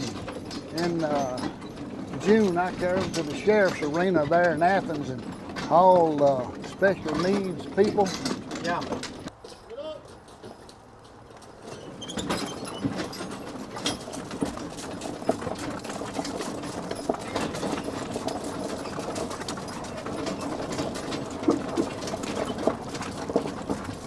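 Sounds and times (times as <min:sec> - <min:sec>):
mule hooves knocking: 0:00.0 - 0:24.0
wagon clattering and rattling: 0:00.0 - 0:24.0.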